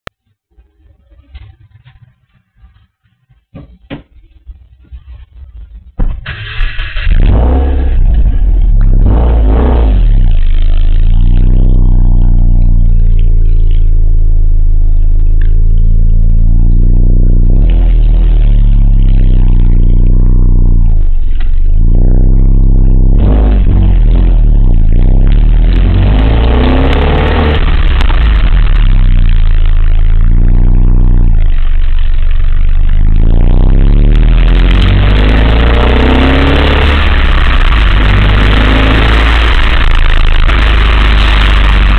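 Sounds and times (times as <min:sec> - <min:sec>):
car engine: 0:00.5 - 0:41.9
road noise: 0:01.0 - 0:41.9.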